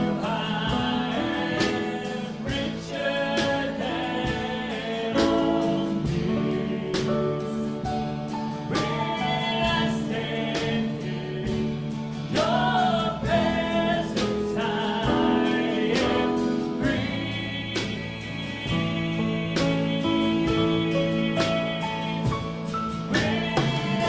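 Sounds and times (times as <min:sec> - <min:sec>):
voices singing together: 0:00.0 - 0:24.0
worship band playing: 0:00.0 - 0:24.0.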